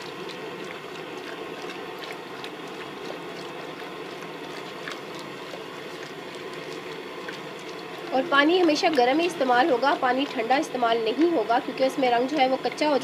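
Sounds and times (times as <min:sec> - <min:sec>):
water rushing in a vat: 0:00.0 - 0:13.0.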